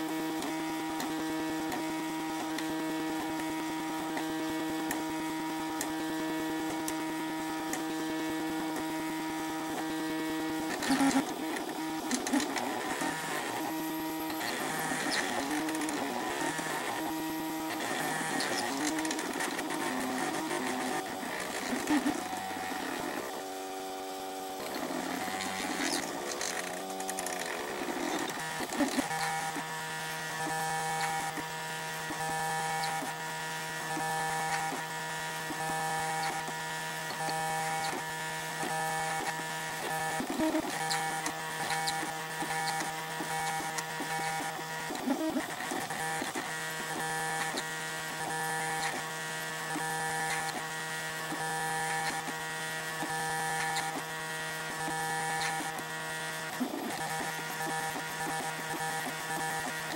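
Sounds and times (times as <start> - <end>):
printer motors whining: 0.0 - 59.9.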